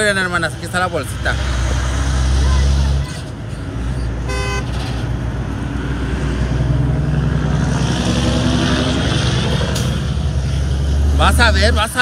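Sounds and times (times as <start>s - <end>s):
truck and car engines running: 0.0s - 12.0s
tyre noise of passing vehicle: 0.0s - 12.0s.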